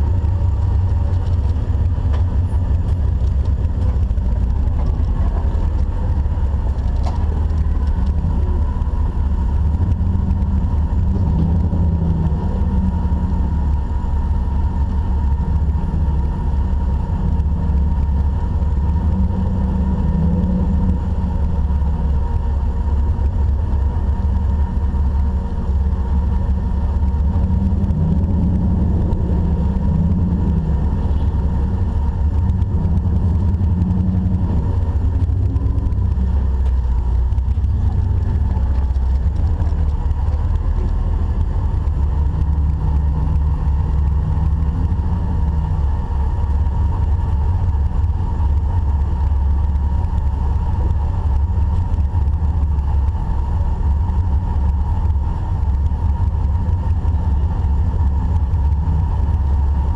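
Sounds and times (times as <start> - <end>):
engine rumbling at low revs: 0.0 - 59.9.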